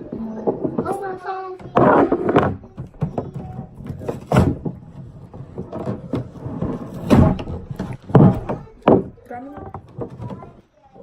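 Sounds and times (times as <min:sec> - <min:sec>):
loud thumps: 0:00.0 - 0:10.5.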